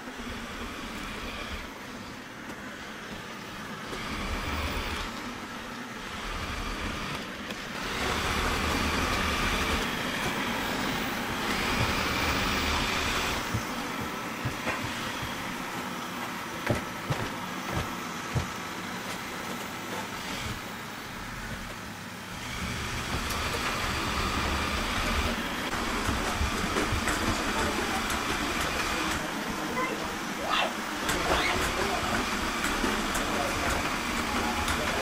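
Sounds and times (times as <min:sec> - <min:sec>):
robot vacuum whirring: 0:00.0 - 0:35.0.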